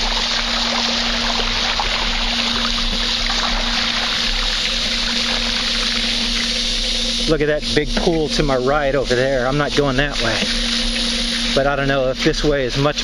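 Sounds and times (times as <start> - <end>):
water dripping: 0.0 - 7.4, 8.0 - 11.6
bike tyres splashing through water: 0.0 - 11.7.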